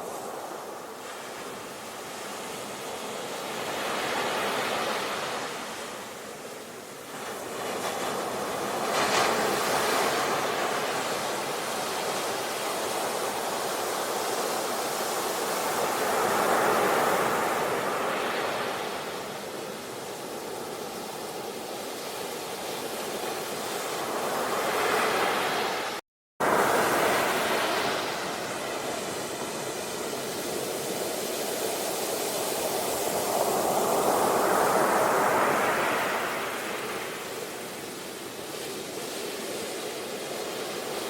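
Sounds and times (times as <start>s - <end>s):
sea waves breaking on shore: 0.0s - 41.0s.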